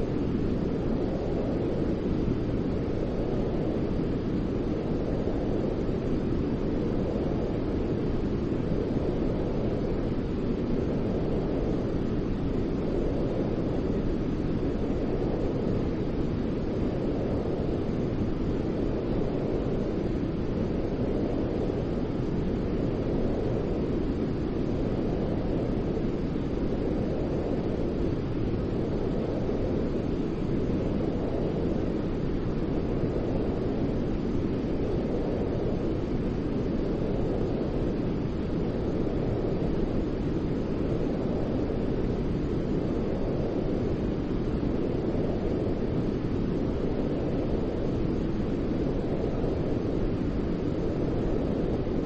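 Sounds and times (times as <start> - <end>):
deep steady white noise hiss: 0.0 - 52.0.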